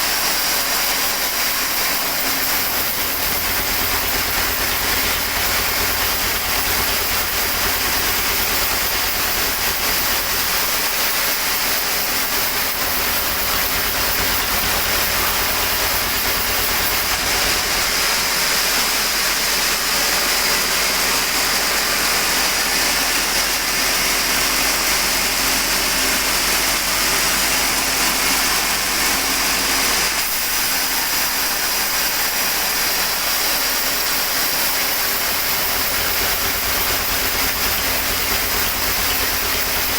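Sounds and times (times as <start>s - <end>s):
sawmill saw hissing: 0.0s - 39.9s.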